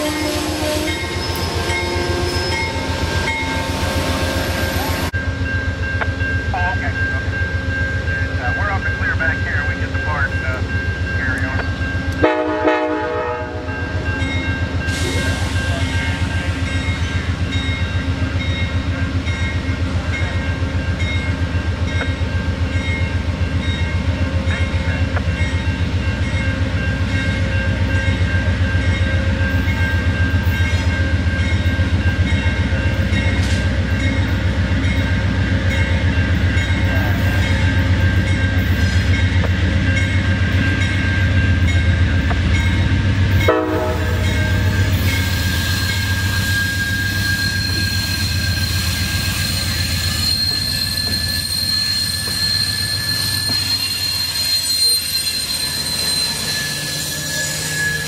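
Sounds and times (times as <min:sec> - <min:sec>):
diesel locomotive droning: 0:00.0 - 0:58.0.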